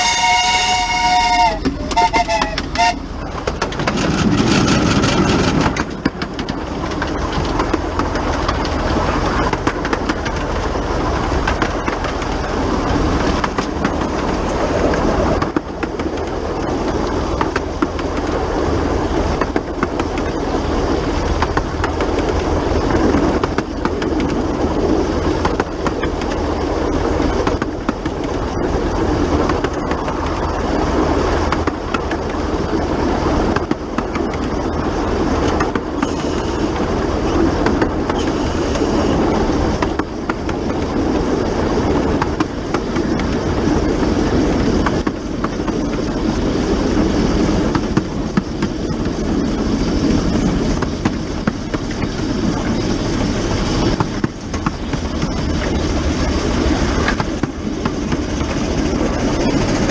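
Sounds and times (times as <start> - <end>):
steam locomotive running: 0.0 - 59.9
wheels clattering on track: 0.0 - 59.9.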